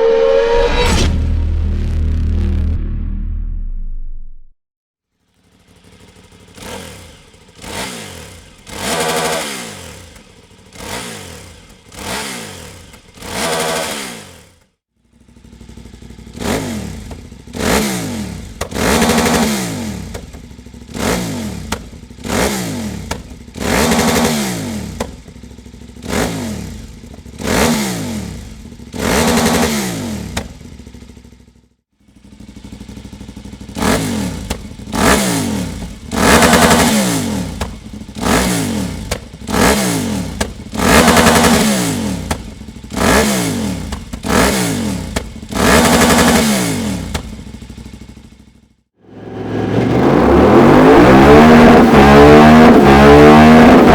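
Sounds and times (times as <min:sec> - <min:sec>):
motorcycle engine revving: 0:05.2 - 0:53.9.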